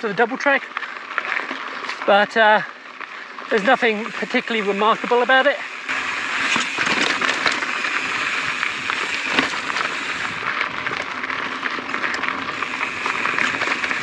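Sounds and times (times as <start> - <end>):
bike clicks and rattles: 0.0 - 14.0
bike tyres hissing on grit: 2.6 - 14.0.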